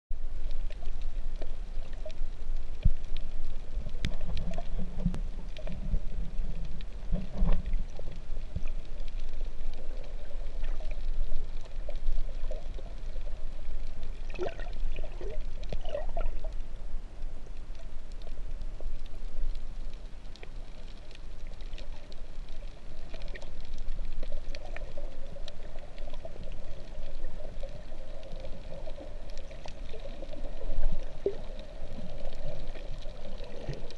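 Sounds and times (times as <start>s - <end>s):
underwater rumble and bubbling: 0.1s - 33.9s
faint clicks: 0.2s - 33.9s.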